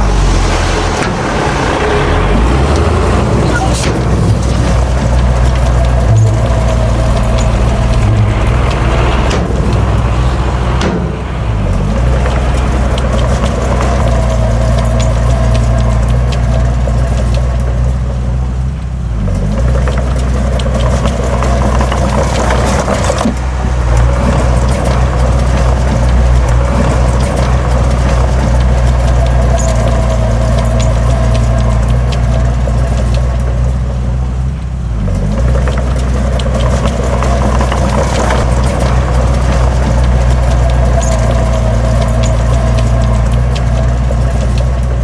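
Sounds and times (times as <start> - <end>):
heavy diesel engine under load: 0.0 - 45.0.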